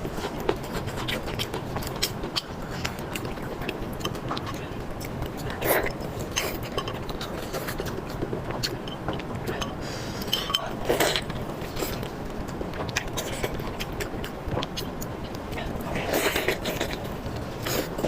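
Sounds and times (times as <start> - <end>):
biting and chewing: 0.0 - 18.0.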